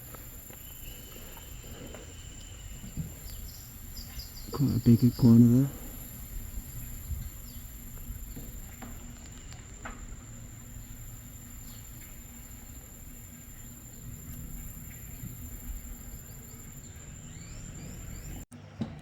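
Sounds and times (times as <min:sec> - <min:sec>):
high-pitched insect drone: 0:00.0 - 0:18.4
low uneven rumble: 0:00.0 - 0:18.5.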